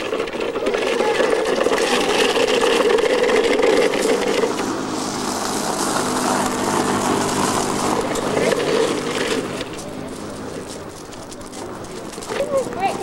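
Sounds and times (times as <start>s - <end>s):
motor scooter engine running: 0.0s - 13.0s.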